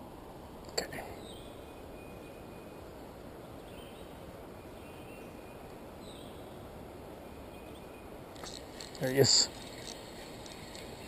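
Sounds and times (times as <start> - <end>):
faint bird chirps: 0.8 - 10.0.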